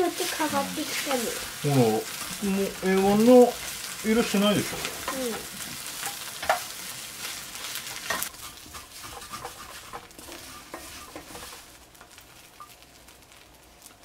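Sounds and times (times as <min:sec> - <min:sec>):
wooden spatula scraping a pan: 0:00.0 - 0:12.8
rice sizzling in a skillet: 0:00.0 - 0:14.0.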